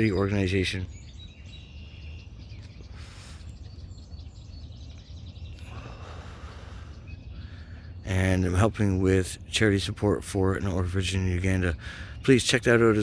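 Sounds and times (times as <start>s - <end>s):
faint bird chirps: 0.0s - 13.0s
steady low rumble: 0.0s - 13.0s.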